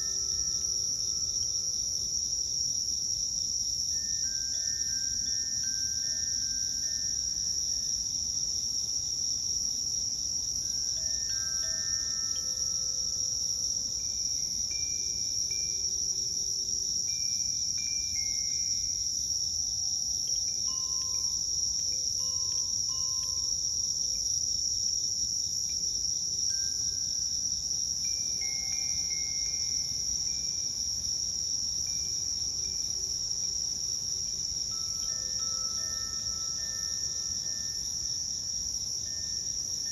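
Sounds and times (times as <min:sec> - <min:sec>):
wind chime notes: 0:00.0 - 0:02.3, 0:03.9 - 0:08.0, 0:10.6 - 0:24.3, 0:26.5 - 0:39.9
crickets trilling: 0:00.0 - 0:39.9.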